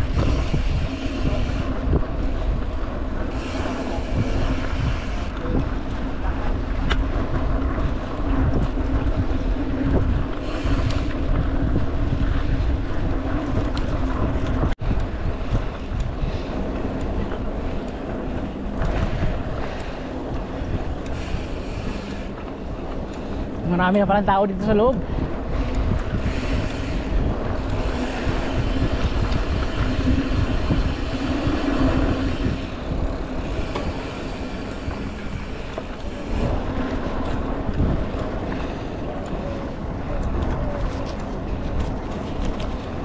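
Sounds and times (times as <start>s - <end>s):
bike rolling on dirt trail: 0.0s - 43.0s
wind buffeting microphone: 0.0s - 43.0s.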